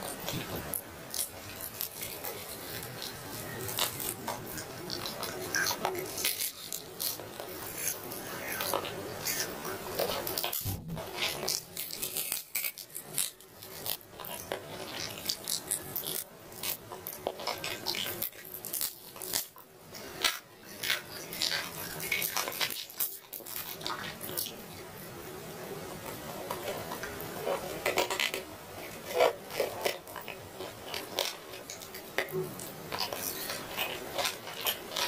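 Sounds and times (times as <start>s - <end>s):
person chewing: 0.0s - 24.5s, 26.5s - 35.0s.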